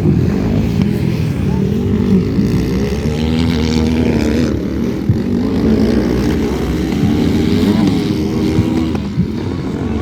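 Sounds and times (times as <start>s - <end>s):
motocross bike engines racing: 0.0s - 10.0s.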